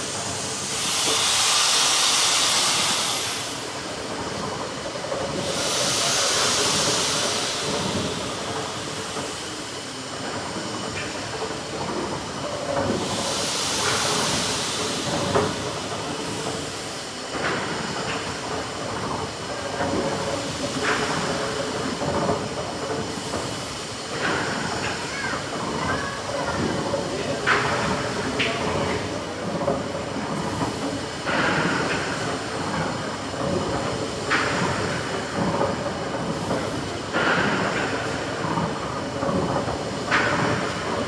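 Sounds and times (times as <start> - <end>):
steam hissing: 0.0 - 41.0.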